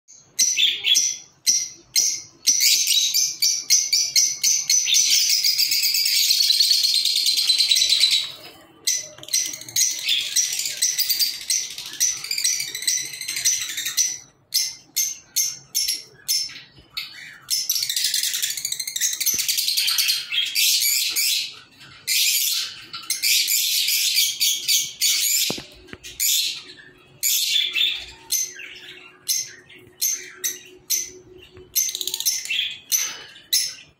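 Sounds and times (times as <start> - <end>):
lovebirds chirping and squeaking: 0.1 - 33.9.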